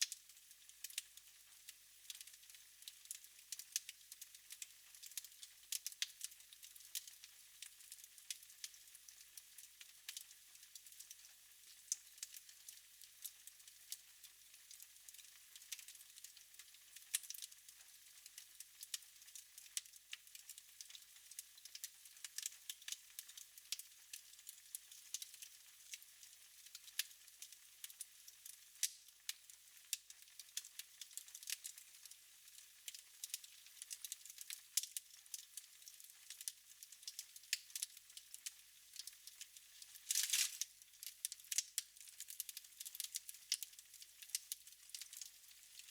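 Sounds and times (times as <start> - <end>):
wood fire crackling: 0.0 - 1.0, 2.0 - 8.9, 9.6 - 14.0, 14.7 - 17.5, 18.3 - 45.9.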